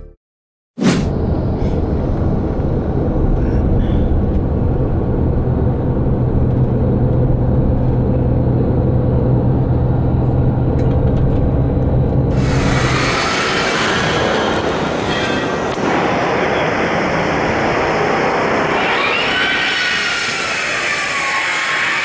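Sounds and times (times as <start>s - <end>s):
bus engine drone: 1.0s - 22.0s
low hum: 1.0s - 22.0s
road noise: 1.1s - 22.0s.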